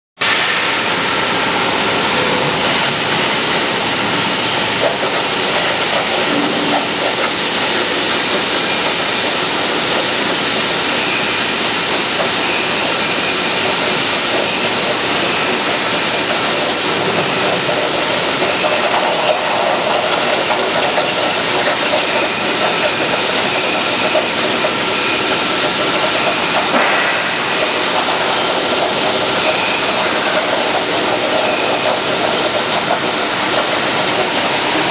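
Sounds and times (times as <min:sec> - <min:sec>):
cutting torch hissing: 0:01.5 - 0:34.9.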